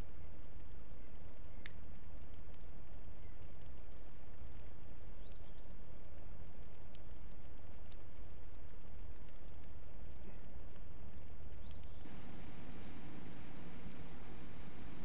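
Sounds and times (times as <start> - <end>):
faint clicks: 0.0 - 15.0.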